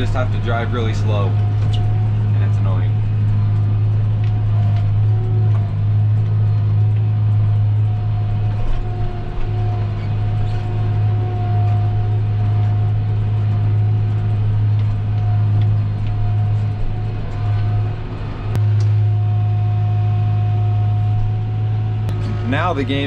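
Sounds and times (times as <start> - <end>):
steady whine: 0.0 - 23.0
tractor engine running under load: 0.0 - 23.0.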